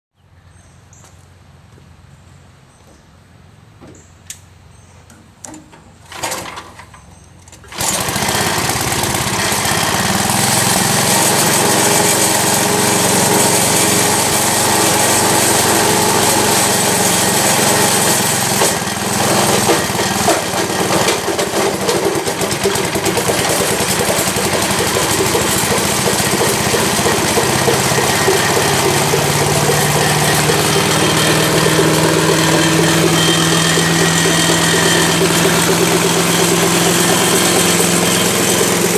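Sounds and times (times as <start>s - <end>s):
small engine starting and running: 6.0s - 38.9s.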